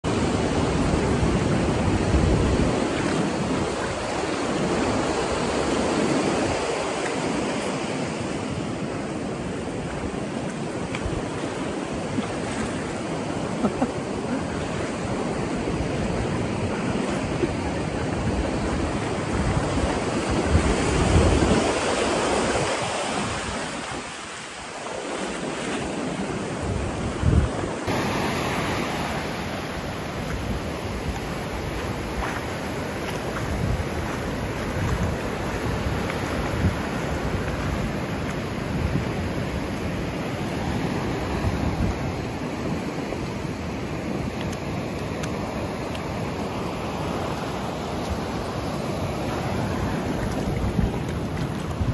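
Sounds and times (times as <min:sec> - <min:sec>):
ocean surf on sandy beach: 0:00.0 - 0:51.9
wind buffeting microphone: 0:00.2 - 0:24.3, 0:25.9 - 0:27.9, 0:29.8 - 0:42.8, 0:48.3 - 0:51.9.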